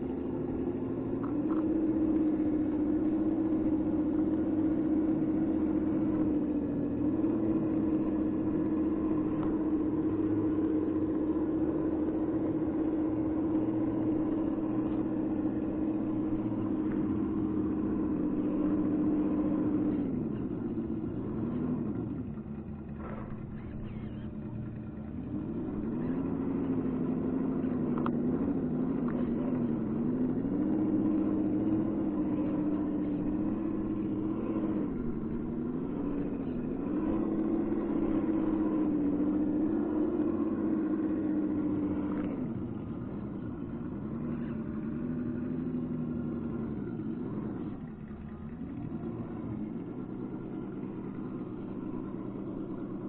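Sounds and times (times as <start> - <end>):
electric motor and gears whining: 0.0 - 53.0.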